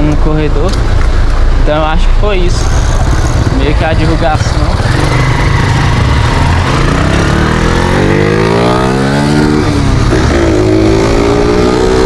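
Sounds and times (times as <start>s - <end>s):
motorcycle accelerating: 2.3s - 12.0s.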